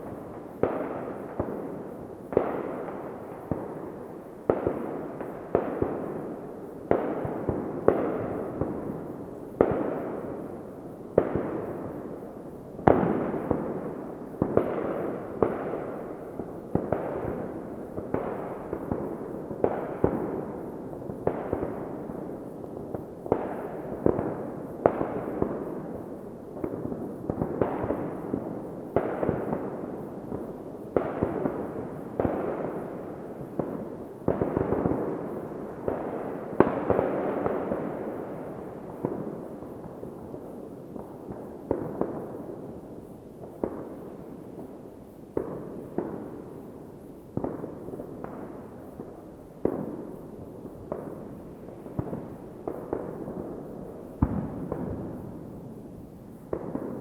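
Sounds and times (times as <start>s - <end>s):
fireworks bangs: 0.0s - 12.1s, 12.8s - 42.7s, 45.3s - 57.0s
fireworks rumble: 0.0s - 57.0s.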